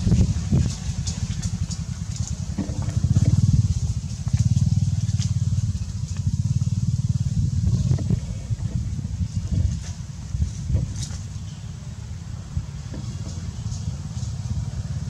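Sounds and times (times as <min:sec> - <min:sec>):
low pulsing engine rumble: 0:00.0 - 0:15.0
rustles: 0:00.0 - 0:15.0.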